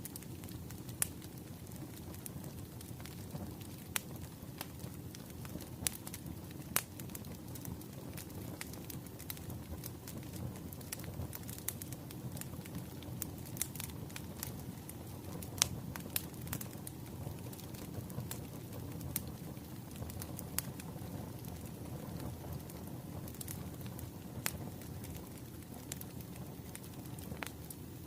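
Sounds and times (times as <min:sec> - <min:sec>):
fire low rumble: 0:00.0 - 0:28.0
firewood crackling and popping: 0:00.0 - 0:28.0.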